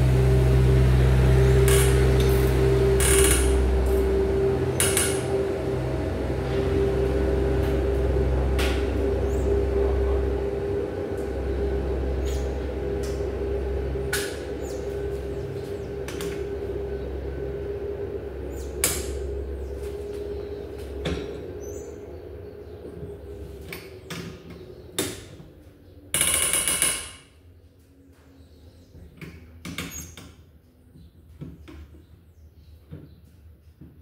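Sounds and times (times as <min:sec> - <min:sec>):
steady machine hum: 0:00.0 - 0:29.7.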